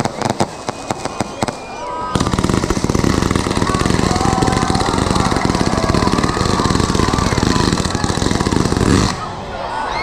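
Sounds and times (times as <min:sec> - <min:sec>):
fireworks bangs and crackles: 0:00.0 - 0:09.5.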